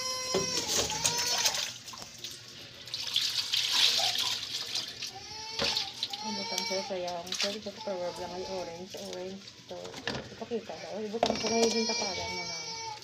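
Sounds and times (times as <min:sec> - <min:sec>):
tap water running and splashing: 0:00.0 - 0:13.0.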